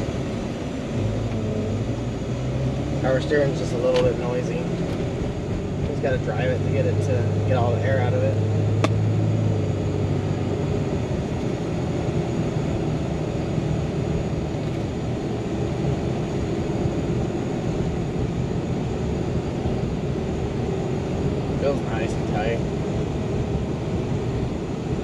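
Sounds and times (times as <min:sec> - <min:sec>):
engine and road noise in cab: 0:00.0 - 0:25.0.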